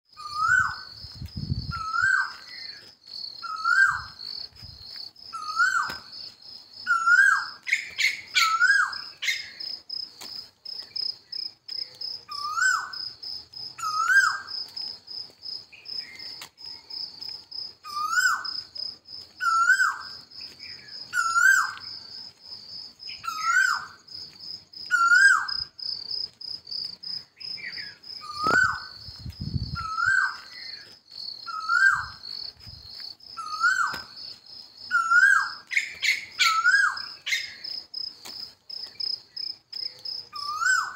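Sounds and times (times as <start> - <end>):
insect trilling: 0.1 - 4.4, 5.2 - 10.2, 11.0 - 40.9.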